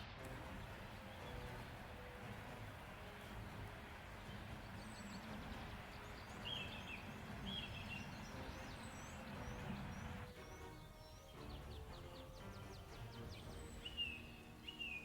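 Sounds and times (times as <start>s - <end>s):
steady low hiss: 0.0s - 15.0s
birds chirping: 0.1s - 15.0s
short warbling bird calls: 0.3s - 15.0s.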